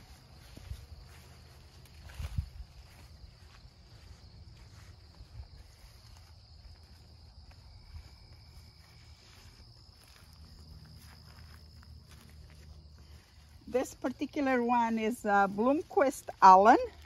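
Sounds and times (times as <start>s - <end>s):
crickets trilling: 0.0s - 17.0s
soft footsteps on grass: 0.0s - 17.0s.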